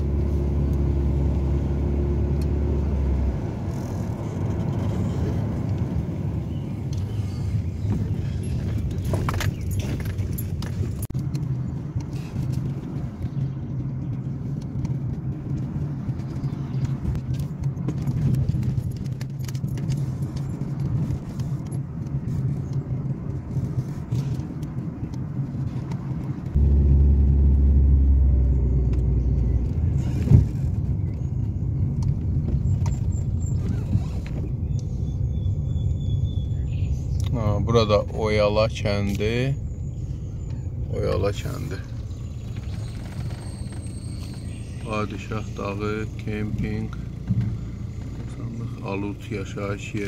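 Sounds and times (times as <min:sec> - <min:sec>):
car cabin road rumble: 0:00.0 - 0:50.0
faint engine hum: 0:00.0 - 0:50.0.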